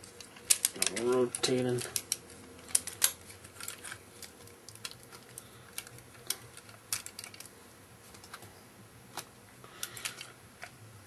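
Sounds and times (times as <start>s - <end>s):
small clicks of toy parts: 0.1s - 7.5s, 9.2s - 10.7s.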